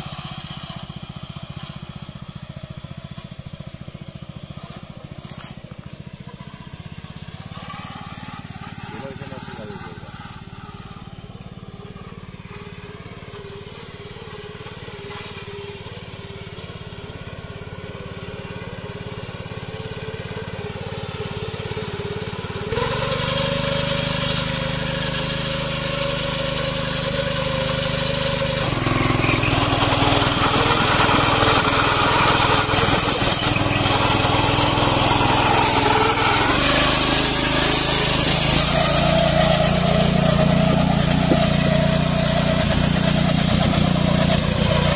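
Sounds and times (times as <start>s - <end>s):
tiller engine running: 0.0s - 44.9s.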